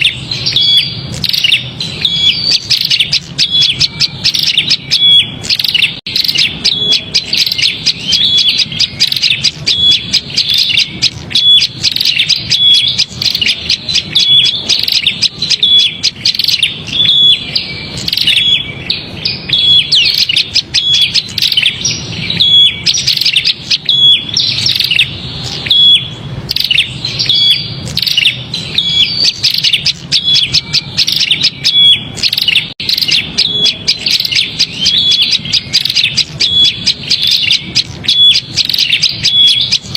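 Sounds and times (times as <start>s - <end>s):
bird rapid chattering call: 0.0s - 39.9s.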